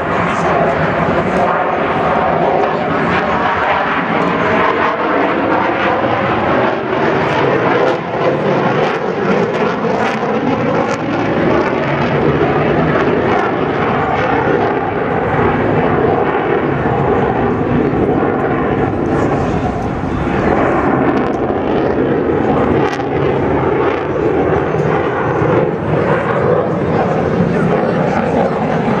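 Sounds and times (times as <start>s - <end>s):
fighter jet engine: 0.0s - 29.0s.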